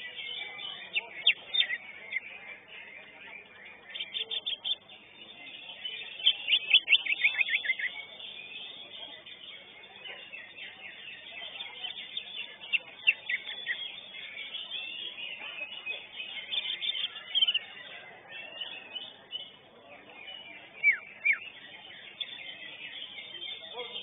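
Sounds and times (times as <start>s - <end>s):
bird singing sharp chirps and trills: 0.0s - 24.0s.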